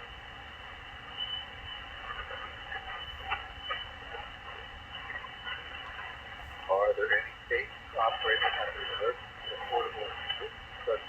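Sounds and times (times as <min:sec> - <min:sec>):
faint static crackles: 0:00.0 - 0:11.0
radio receiver hiss: 0:00.0 - 0:11.0.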